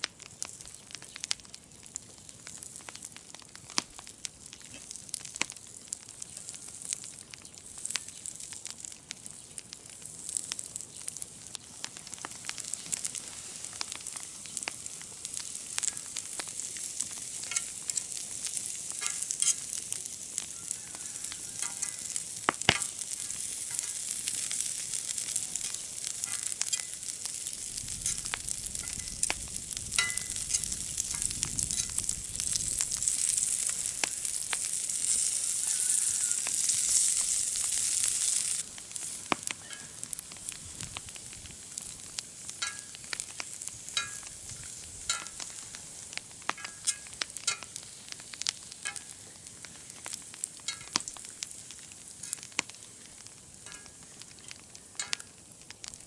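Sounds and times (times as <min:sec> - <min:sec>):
sausage sizzling in grill pan: 0:00.0 - 0:56.0.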